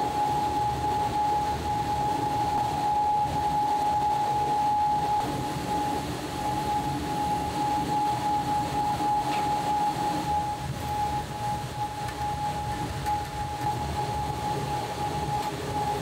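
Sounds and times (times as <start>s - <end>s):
high whine of equipment: 0.0s - 16.0s
low hum: 0.0s - 16.0s.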